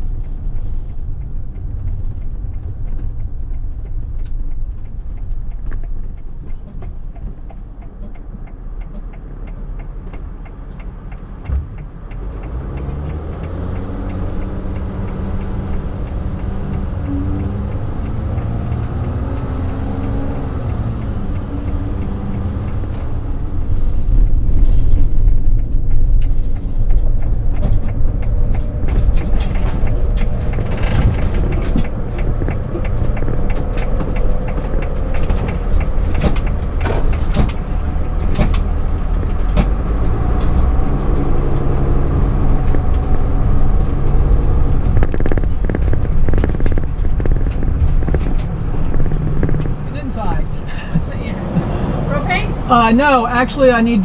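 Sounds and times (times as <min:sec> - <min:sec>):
motorhome engine and road rumble: 0:00.0 - 0:54.0.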